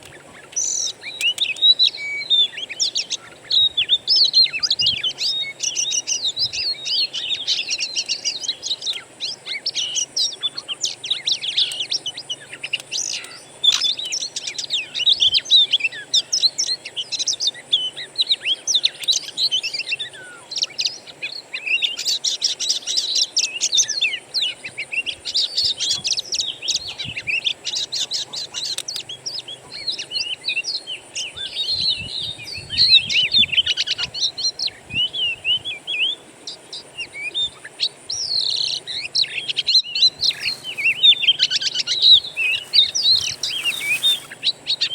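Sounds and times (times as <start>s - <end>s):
faint high hiss: 0.0s - 44.9s
songbird singing: 0.0s - 44.9s.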